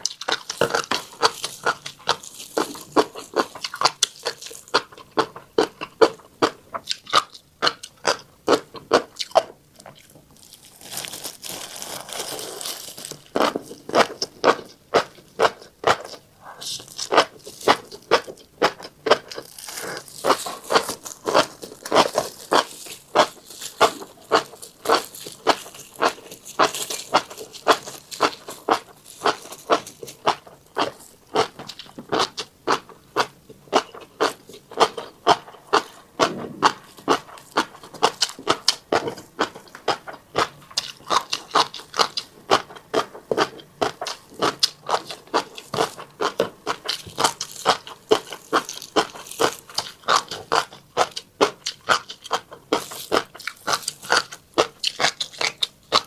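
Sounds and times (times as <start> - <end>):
person chewing crunchy seeds: 0.0 - 56.0.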